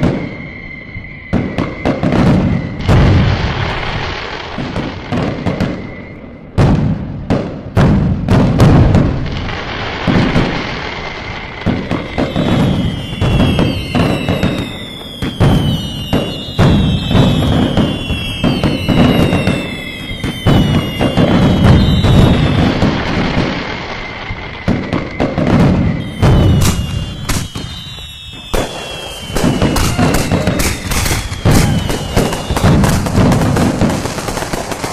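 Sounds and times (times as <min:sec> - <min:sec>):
descending firework whistles: 0:00.0 - 0:34.9
firework bangs and crackling: 0:00.0 - 0:34.9.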